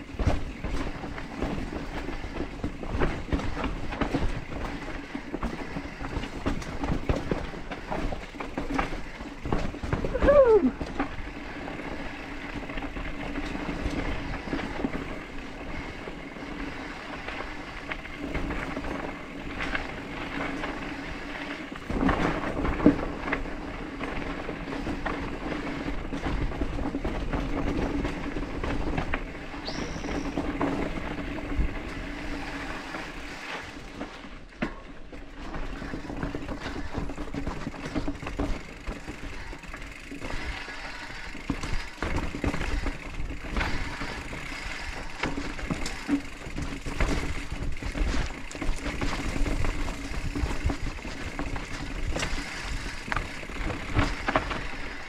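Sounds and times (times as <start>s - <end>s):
bike rattling and knocking: 0.0s - 55.0s
bike tyres rolling on dirt trail: 0.0s - 55.0s.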